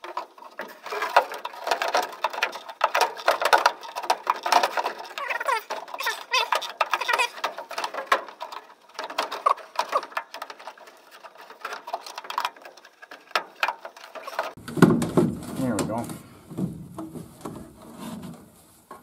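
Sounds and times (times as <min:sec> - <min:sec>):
rubbing squeaks: 0:00.0 - 0:14.6, 0:17.0 - 0:19.0.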